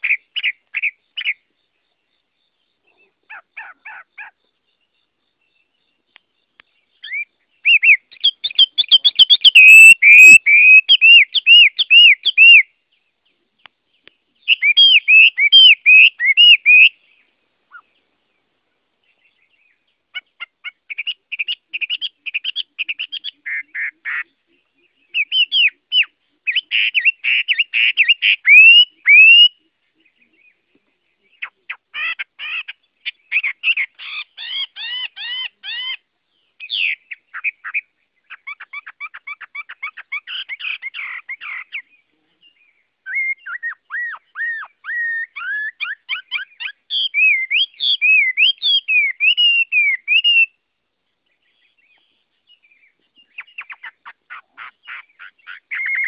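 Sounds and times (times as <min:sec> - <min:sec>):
bird singing whistled notes: 0:00.0 - 0:50.6, 0:51.3 - 0:56.0.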